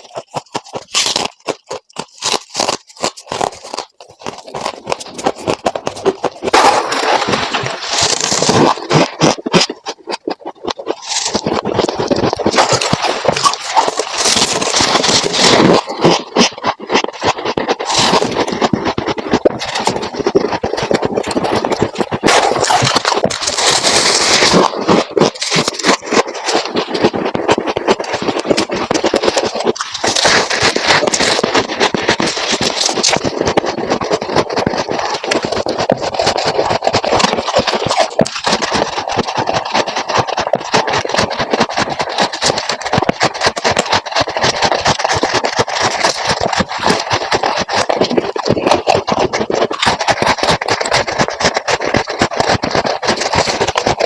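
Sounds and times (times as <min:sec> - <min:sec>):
frost ice scraped and crunched: 0:00.0 - 0:54.0.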